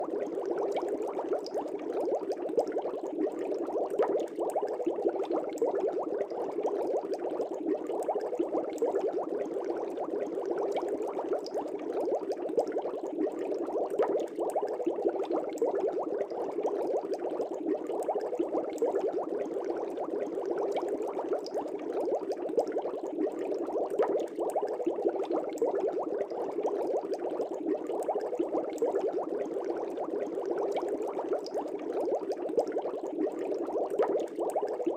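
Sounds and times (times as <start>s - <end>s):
air bubbles in fish tank water: 0.0s - 34.9s.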